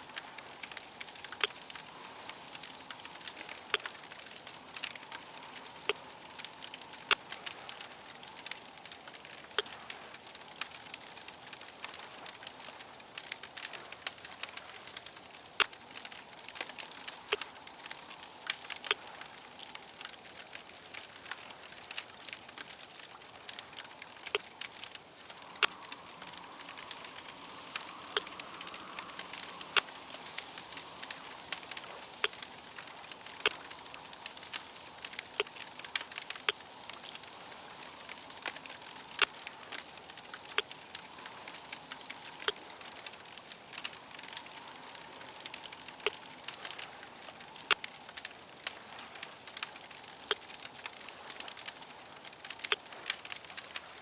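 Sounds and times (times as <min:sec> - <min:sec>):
fire popping and snapping: 0:00.0 - 0:54.0
steady hiss of fire: 0:00.0 - 0:54.0.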